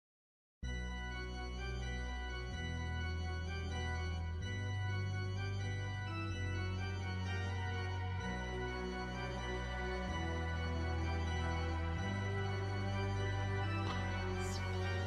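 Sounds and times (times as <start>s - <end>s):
slow keyboard chords: 0.6s - 15.0s.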